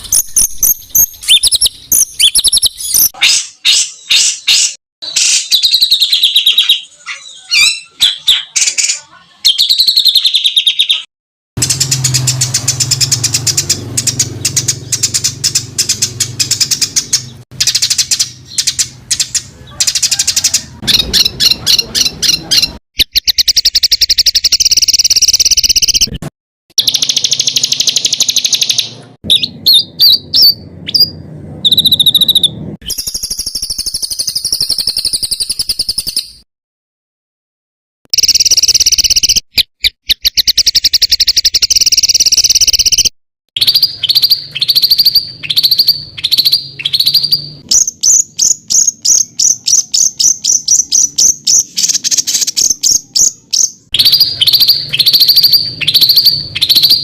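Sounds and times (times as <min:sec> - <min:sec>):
songbird singing harsh runs: 0:00.0 - 0:26.2, 0:26.8 - 0:36.4, 0:38.2 - 0:57.0.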